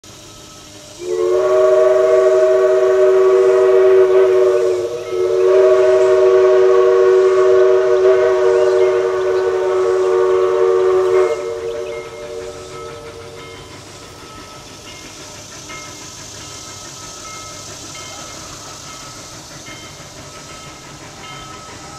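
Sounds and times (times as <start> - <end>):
steam chime whistle blowing: 0.1 - 21.9.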